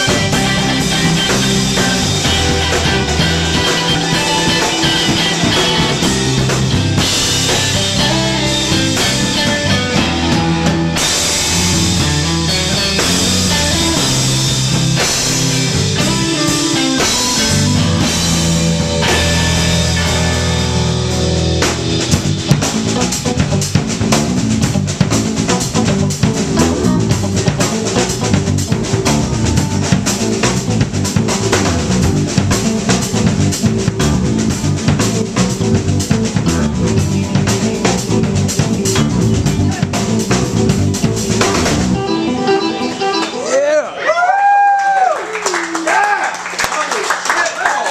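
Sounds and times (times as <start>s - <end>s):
drum kit playing: 0.0s - 45.0s
electric bass: 0.0s - 45.1s
electric guitar: 0.0s - 45.2s.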